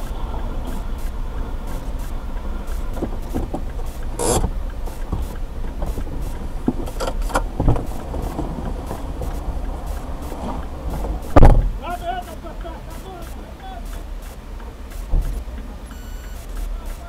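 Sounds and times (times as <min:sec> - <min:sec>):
rustling burst: 0:00.0 - 0:15.5
knocks and clicks: 0:00.0 - 0:17.0
low engine rumble: 0:00.0 - 0:17.0.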